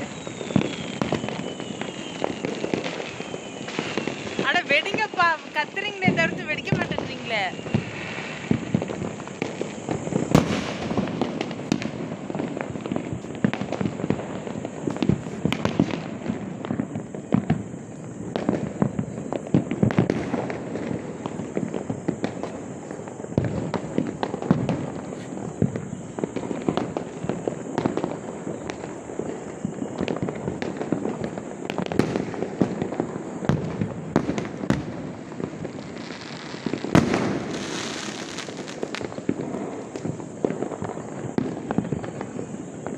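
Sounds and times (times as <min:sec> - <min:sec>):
fireworks crackling and banging: 0:00.0 - 0:42.9.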